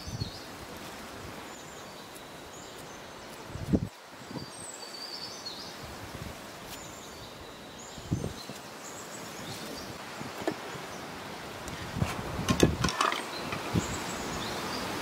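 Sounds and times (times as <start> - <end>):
small birds chirping: 0.0 - 12.0, 13.0 - 15.0.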